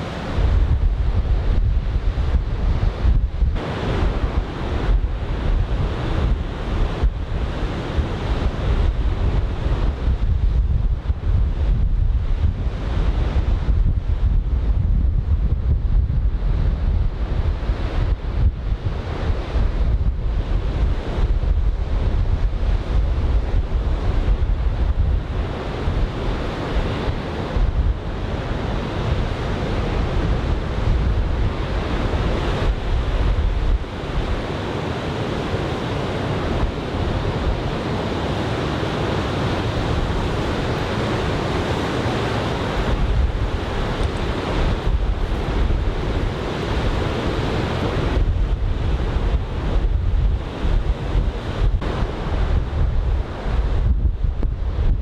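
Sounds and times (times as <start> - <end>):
heavy surf breaking: 0.0 - 14.3, 16.5 - 55.0
wind buffeting microphone: 0.0 - 55.0.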